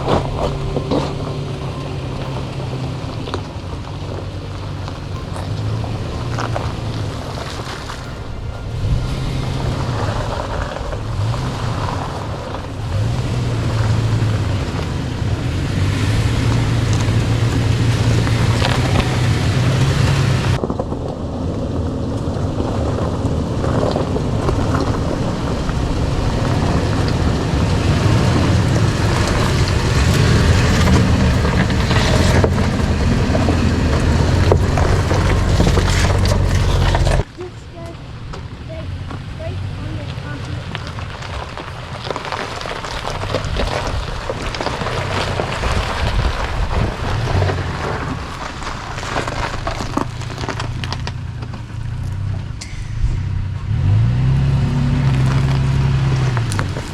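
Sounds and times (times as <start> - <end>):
off-road vehicle engine running: 0.0 - 56.9
road and wind noise: 0.0 - 56.9.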